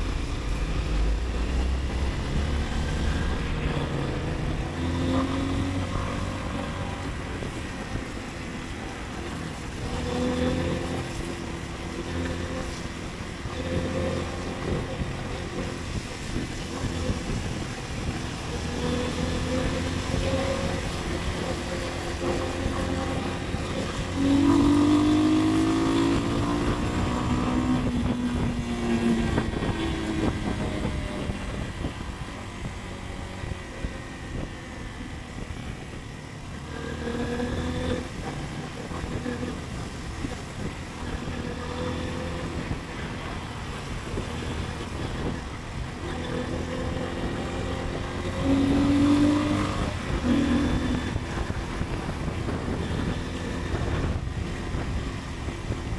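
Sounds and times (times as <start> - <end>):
motorcycle engine revving: 0.0 - 55.9
road and wind noise: 0.0 - 55.9.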